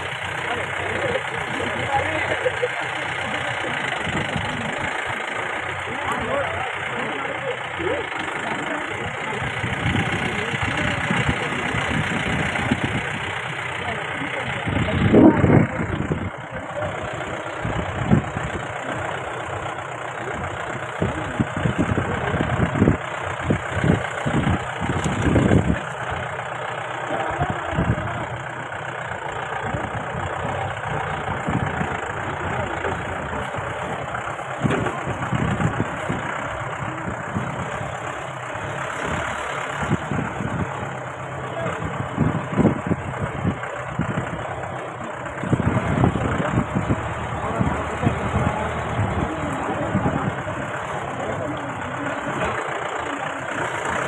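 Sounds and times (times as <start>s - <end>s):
suv engine running: 0.0s - 54.0s.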